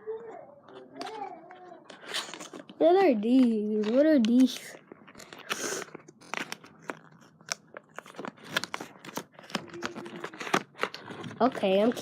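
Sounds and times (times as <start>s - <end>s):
plastic packaging crinkling: 1.6s - 12.0s.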